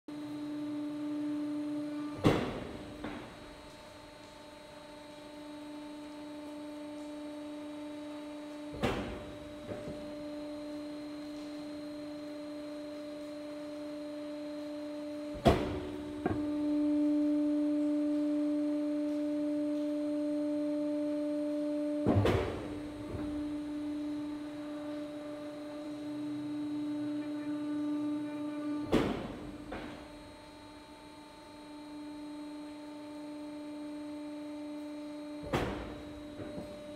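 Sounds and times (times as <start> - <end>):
machine hum: 0.1 - 36.9.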